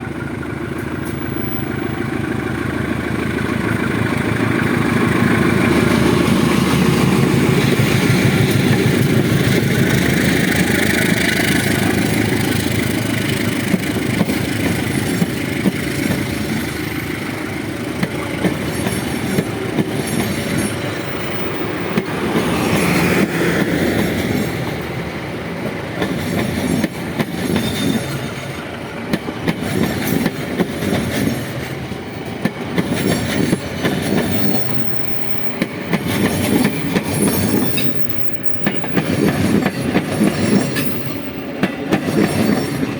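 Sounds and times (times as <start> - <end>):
locomotive engine passing: 0.0 - 42.9
train wheels clacking on rails: 0.2 - 42.9.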